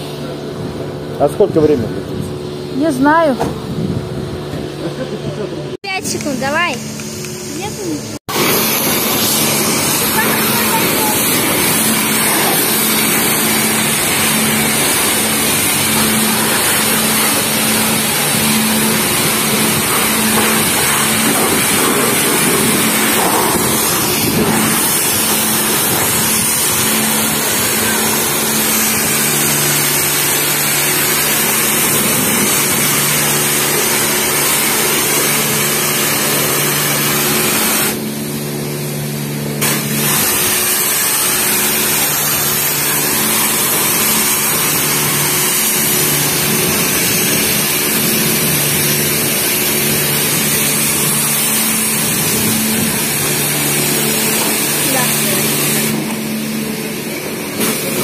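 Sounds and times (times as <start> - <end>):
pressure washer spray hissing: 6.0 - 58.0.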